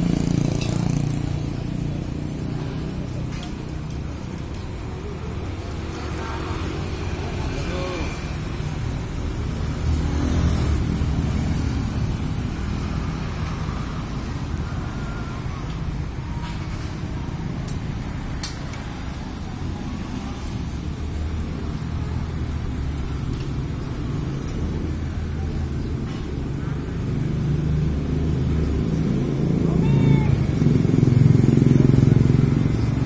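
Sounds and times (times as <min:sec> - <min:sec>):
vehicle engines passing: 0:00.0 - 0:33.0.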